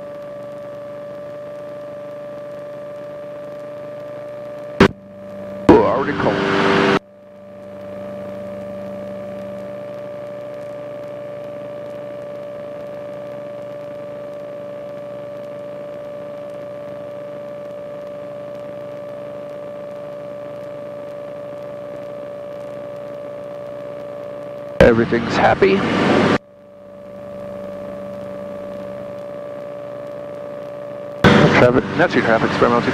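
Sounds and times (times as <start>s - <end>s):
light aircraft cockpit drone: 0.0s - 32.9s.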